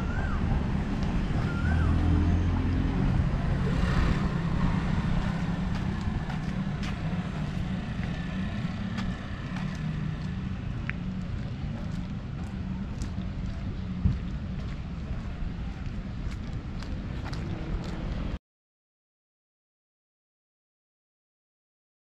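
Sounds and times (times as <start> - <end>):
car engines passing on street: 0.0 - 18.4.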